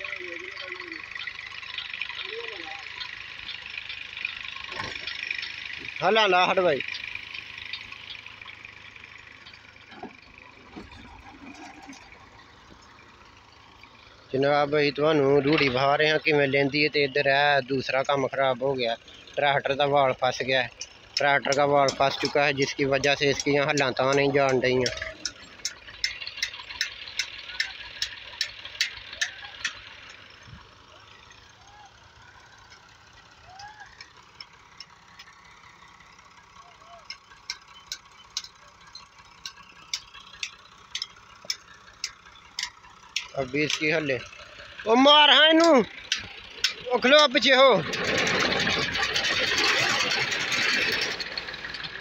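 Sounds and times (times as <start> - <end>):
sharp ticking: 0.0 - 10.6, 12.0 - 52.0
tractor diesel engine idling: 0.0 - 52.0.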